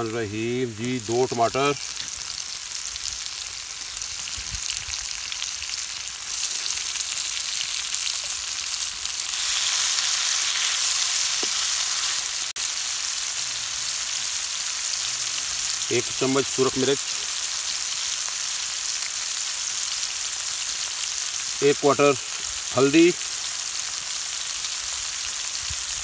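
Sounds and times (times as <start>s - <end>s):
onions sizzling in a frying pan: 0.0s - 26.0s.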